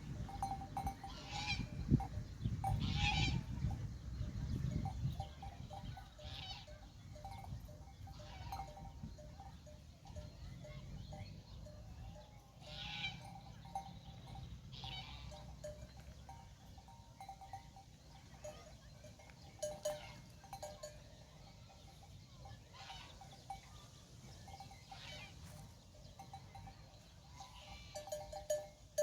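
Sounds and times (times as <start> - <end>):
animal bells clinking: 0.0 - 29.0.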